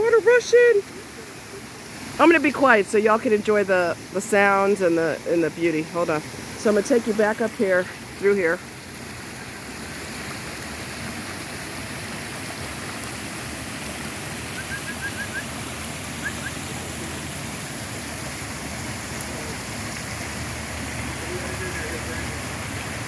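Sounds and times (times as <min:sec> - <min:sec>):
creek and waterfall rushing: 0:00.0 - 0:23.0.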